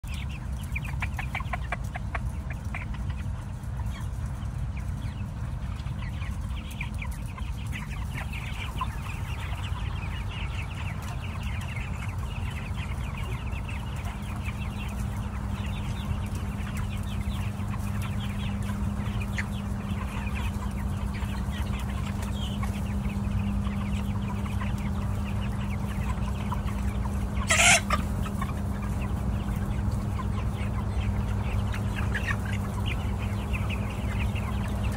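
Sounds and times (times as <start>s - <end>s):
chickens clucking and chirping: 0.0s - 34.9s
exhaust fans humming: 0.0s - 34.9s.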